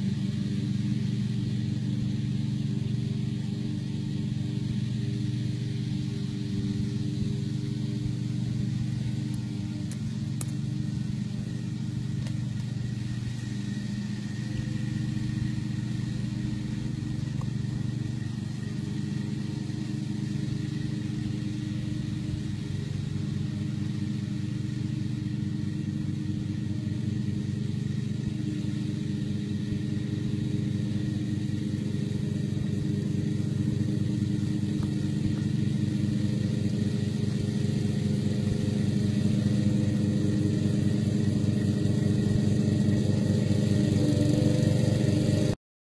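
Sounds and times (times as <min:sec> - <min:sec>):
lawn tractor engine mowing: 0:00.0 - 0:45.6.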